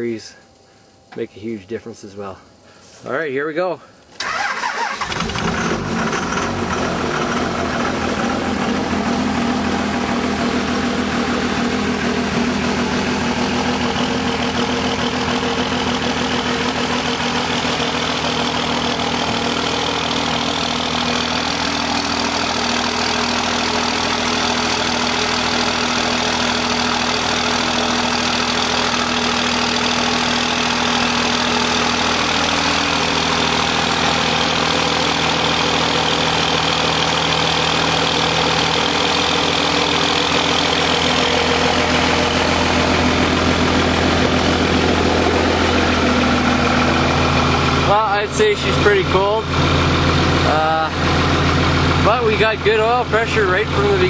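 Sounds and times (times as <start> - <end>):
diesel engine idling with clatter: 3.7 - 54.0
diesel engine cranking: 3.9 - 54.0.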